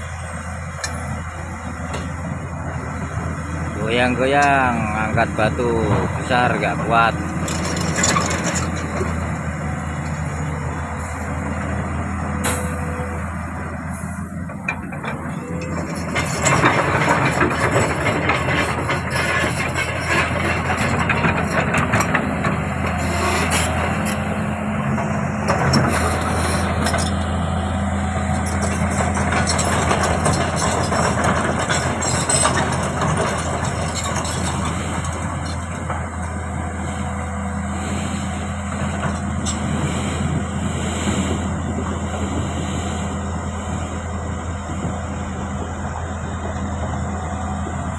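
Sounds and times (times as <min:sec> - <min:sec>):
excavator diesel engine droning: 0:00.0 - 0:47.9.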